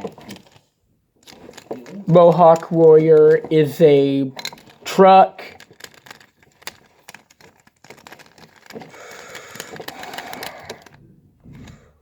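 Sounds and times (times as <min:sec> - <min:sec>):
plastic and cardboard rustling: 0:00.0 - 0:12.0
rapid small clicks: 0:01.2 - 0:11.0.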